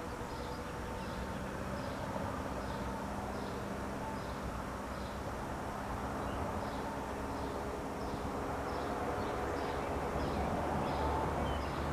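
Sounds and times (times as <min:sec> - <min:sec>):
distant propeller plane drone: 0:00.0 - 0:11.9.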